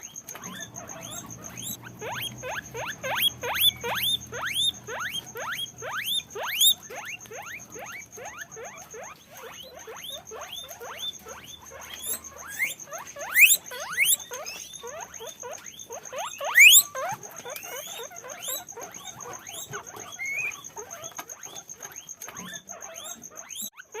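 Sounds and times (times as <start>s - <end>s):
guinea pigs squeaking: 0.0s - 24.0s.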